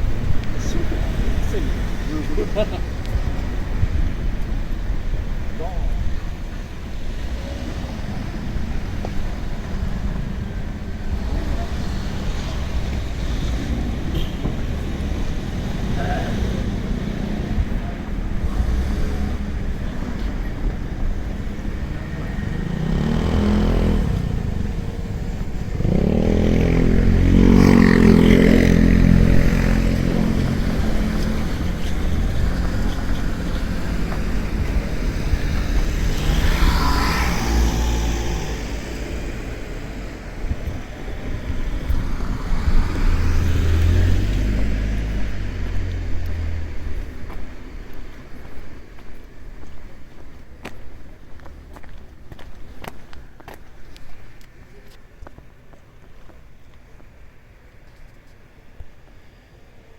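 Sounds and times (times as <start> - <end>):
rumble of passing vehicles: 0.0 - 59.9.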